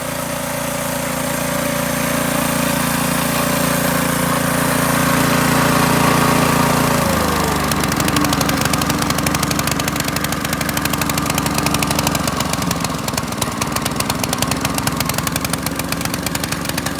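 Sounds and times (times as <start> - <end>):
small engine idling: 0.0 - 16.9.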